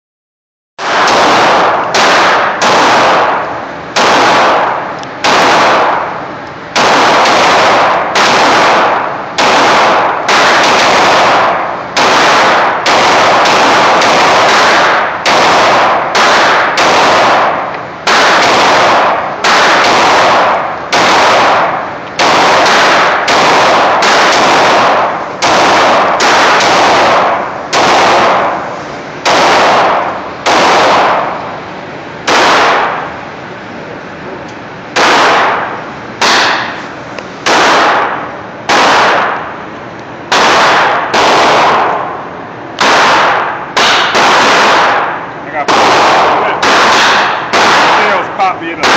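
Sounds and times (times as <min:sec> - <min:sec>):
pistol shots echoing: 0:00.8 - 0:31.5, 0:32.2 - 0:33.2, 0:34.9 - 0:36.8, 0:37.4 - 0:39.6, 0:40.3 - 0:42.2, 0:42.8 - 0:48.9.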